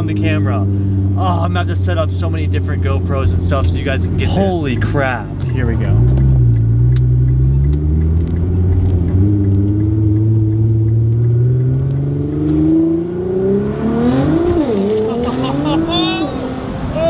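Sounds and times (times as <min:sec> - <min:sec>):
car engine under throttle: 0:00.0 - 0:17.0.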